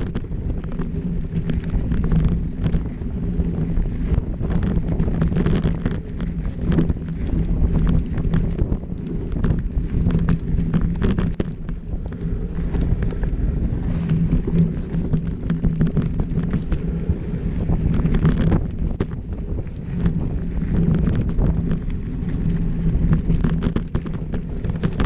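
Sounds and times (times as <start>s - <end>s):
bike clicks and rattles: 0.0s - 25.0s
tyres rumbling over dirt: 0.0s - 25.0s
wind on microphone: 0.0s - 25.0s.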